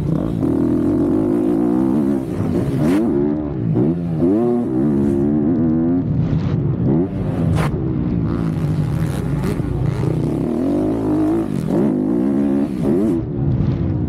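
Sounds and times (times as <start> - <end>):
motocross bike engine revving: 0.0 - 13.3.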